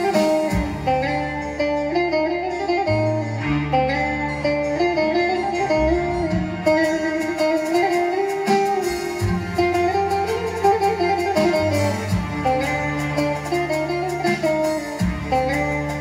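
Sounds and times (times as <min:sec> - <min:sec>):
held low bass notes: 0:00.0 - 0:07.6, 0:09.2 - 0:14.3, 0:15.0 - 0:16.0
saz melody picked with plectrum: 0:00.0 - 0:16.0.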